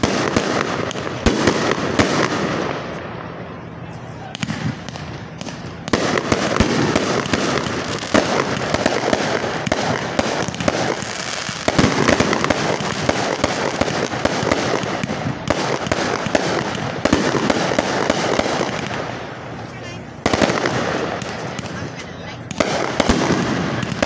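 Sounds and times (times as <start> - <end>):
fireworks bursting and crackling: 0.0 - 24.0.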